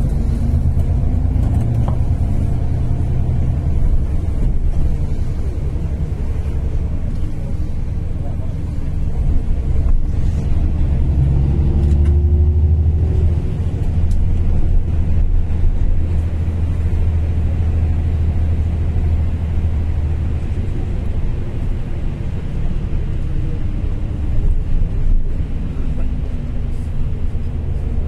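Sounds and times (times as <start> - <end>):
bus engine and tyre rumble: 0.0 - 28.0.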